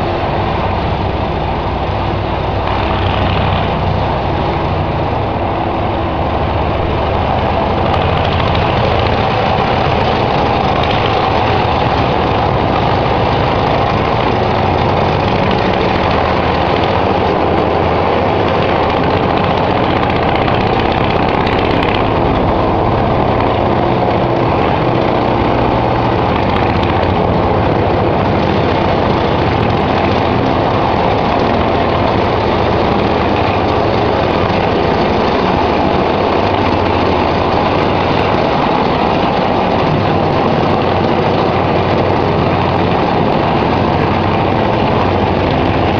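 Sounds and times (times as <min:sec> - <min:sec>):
plow blade clearing snow: 0:00.0 - 0:45.9
small engine running steadily: 0:00.0 - 0:45.9.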